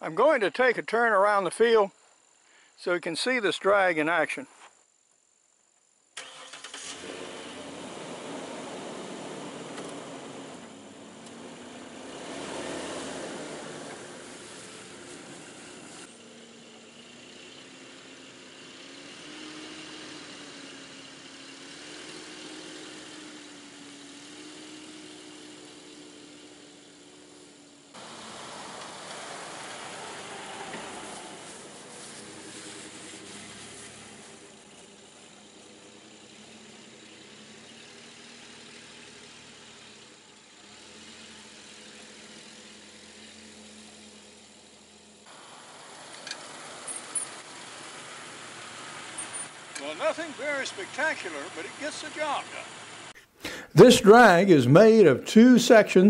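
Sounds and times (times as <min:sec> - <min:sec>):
pickup truck engine running: 0:06.2 - 0:55.0
steady hiss: 0:08.2 - 0:55.8.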